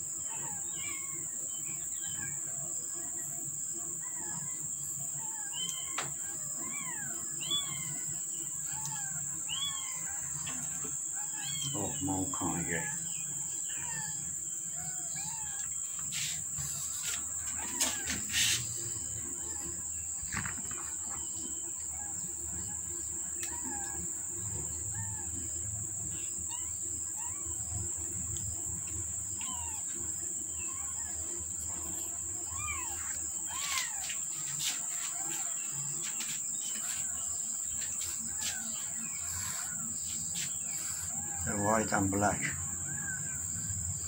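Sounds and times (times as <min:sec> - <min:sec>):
insect chirps: 0:00.0 - 0:44.0
insect drone: 0:00.0 - 0:44.0.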